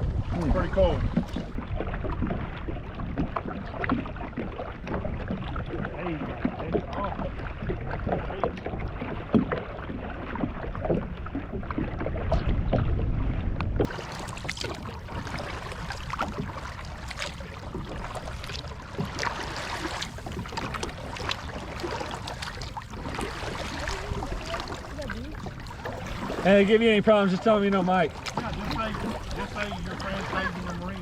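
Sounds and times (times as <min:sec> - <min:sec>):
wind rumble on microphone: 0:00.0 - 0:26.4
paddle blades splashing: 0:00.0 - 0:31.0.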